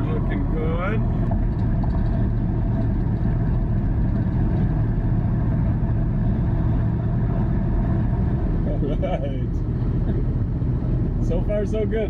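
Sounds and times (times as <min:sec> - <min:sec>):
car engine drone: 0:00.0 - 0:12.0
road and wind noise: 0:00.0 - 0:12.0.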